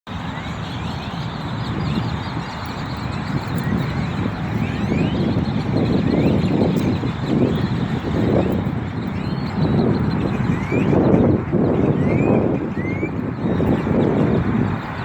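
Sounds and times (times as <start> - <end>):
flock of birds chirping: 0.1 - 15.0.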